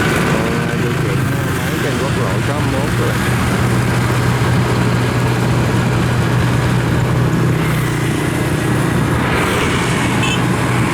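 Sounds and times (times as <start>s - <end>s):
farm machine engine running: 0.0s - 10.9s.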